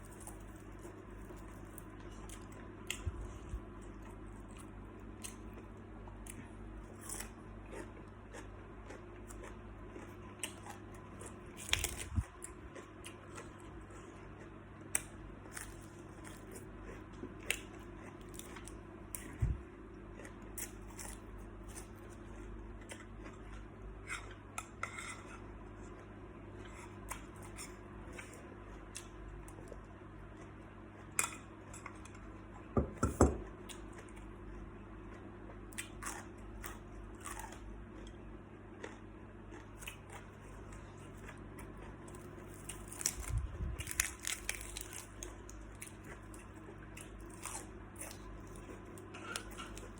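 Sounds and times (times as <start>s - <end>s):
chewing: 0.0s - 32.3s, 33.4s - 49.9s.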